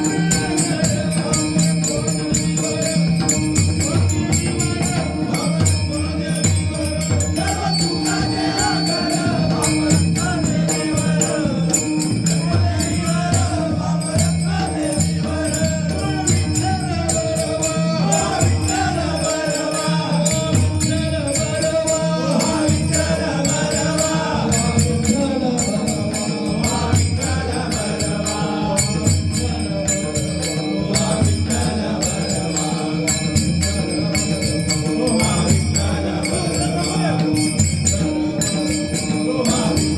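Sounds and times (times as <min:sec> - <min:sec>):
drum steady rhythm: 0:00.0 - 0:39.9
small hand cymbals jingling: 0:00.0 - 0:39.9.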